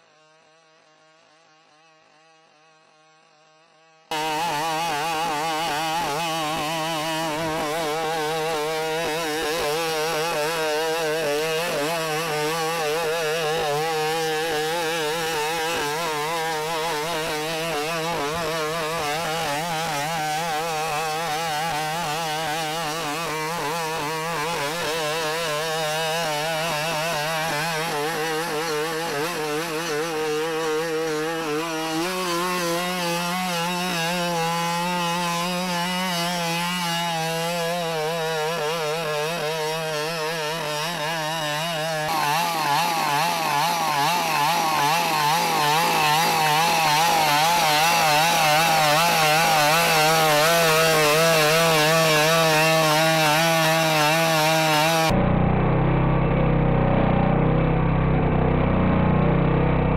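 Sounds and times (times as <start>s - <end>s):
two-stroke engine running: 4.1s - 59.9s.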